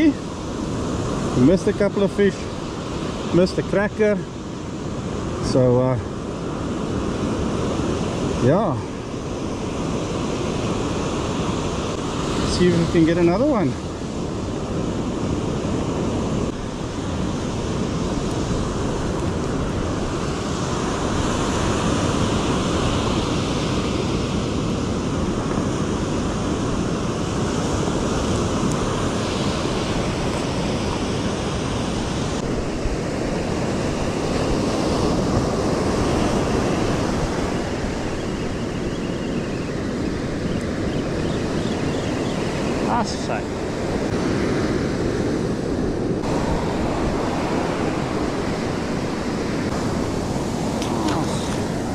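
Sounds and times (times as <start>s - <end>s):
waves breaking on beach: 0.0s - 51.9s
wind: 0.0s - 51.9s.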